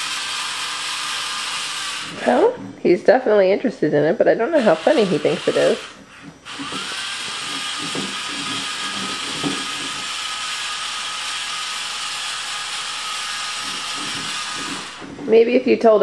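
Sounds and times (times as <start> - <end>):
small electric motor whining: 0.0 - 2.5, 4.6 - 15.2.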